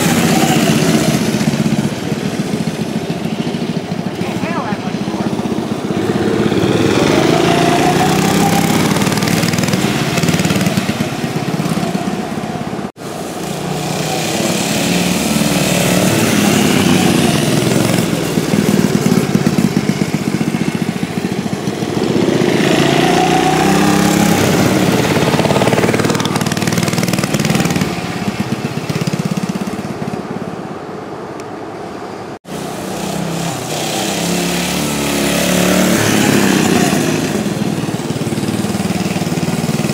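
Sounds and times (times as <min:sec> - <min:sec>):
mini bike engines revving: 0:00.0 - 0:30.5, 0:32.4 - 0:39.9.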